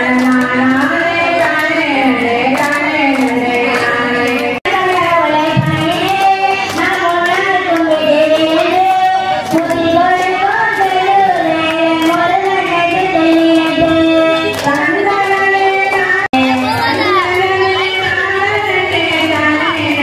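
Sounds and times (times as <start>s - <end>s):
women and girls singing: 0.0s - 20.0s.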